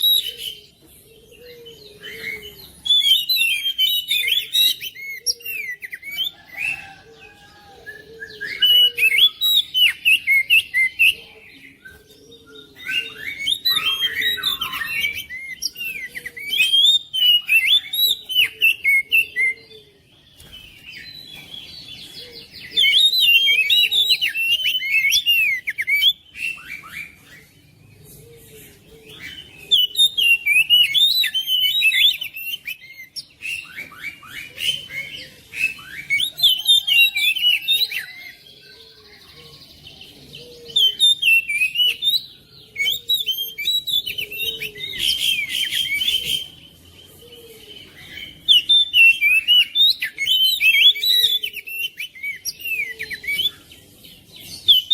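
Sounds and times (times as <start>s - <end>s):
bird singing varied notes: 0.0s - 54.9s.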